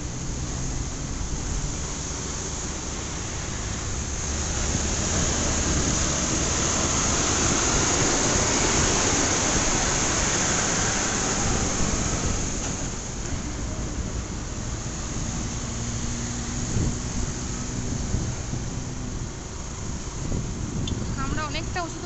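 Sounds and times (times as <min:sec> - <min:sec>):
bus passing alongside: 0:00.0 - 0:22.0
road noise: 0:00.0 - 0:22.0
rushing wind: 0:00.0 - 0:22.0.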